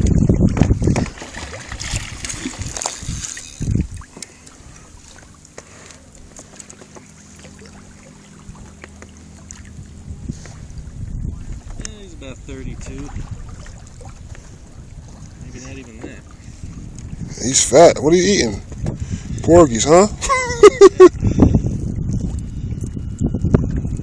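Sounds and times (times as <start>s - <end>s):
wind buffeting microphone: 0.0s - 5.1s, 7.5s - 24.0s
water lapping and trickling: 0.0s - 24.0s.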